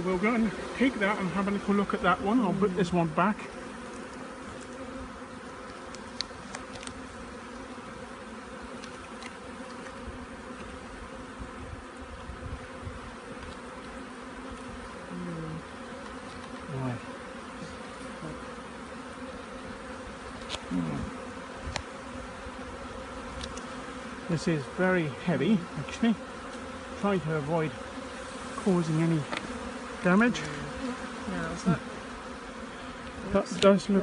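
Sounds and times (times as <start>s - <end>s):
bees humming: 0.0s - 34.0s
single bee buzzing past: 0.0s - 34.0s.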